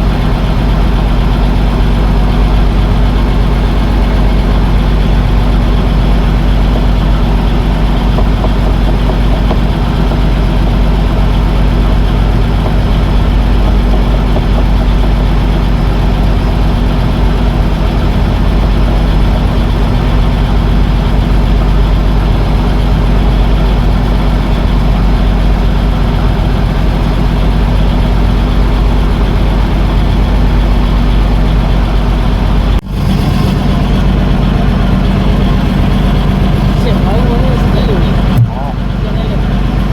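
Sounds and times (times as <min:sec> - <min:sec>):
boat engine rumbling: 0:00.0 - 0:39.9.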